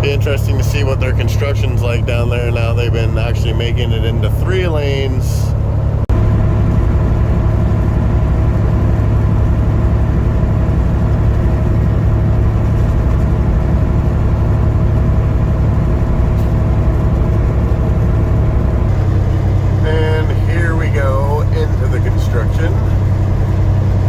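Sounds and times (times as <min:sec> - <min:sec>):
road noise: 0:00.0 - 0:24.0
truck diesel engine droning: 0:00.0 - 0:24.0.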